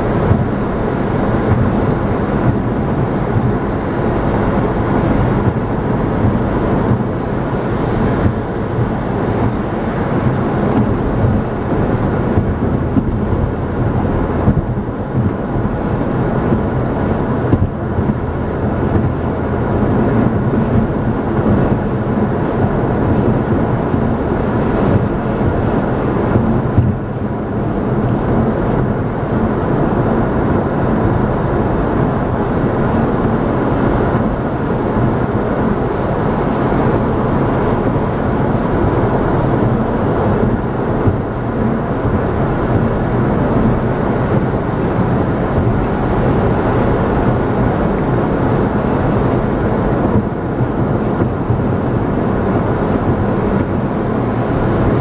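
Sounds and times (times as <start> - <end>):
car engine hum: 0.0 - 55.0
wind: 0.0 - 55.0.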